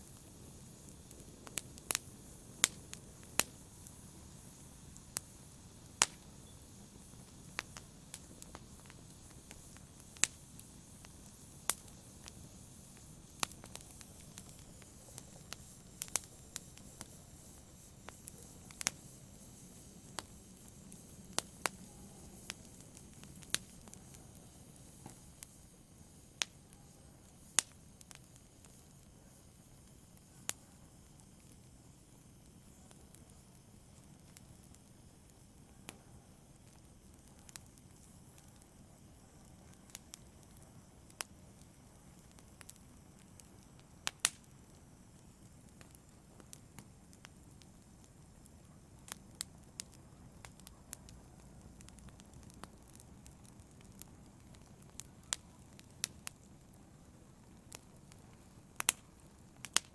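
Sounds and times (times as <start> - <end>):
fire crackling in fireplace: 0.0 - 59.9.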